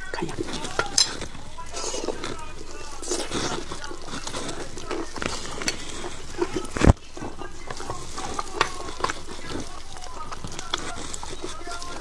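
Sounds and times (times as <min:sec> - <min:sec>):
lip smacks: 0:00.0 - 0:12.0
wet chewing: 0:00.0 - 0:12.0.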